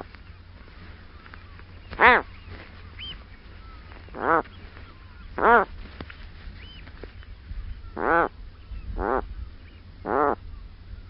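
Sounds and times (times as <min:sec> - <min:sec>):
bird honking calls: 0:00.0 - 0:05.8, 0:06.5 - 0:11.0
low steady hum: 0:00.0 - 0:11.0.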